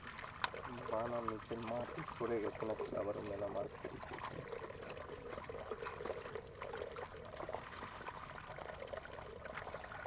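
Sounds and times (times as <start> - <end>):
water pouring and splashing: 0.0 - 10.0.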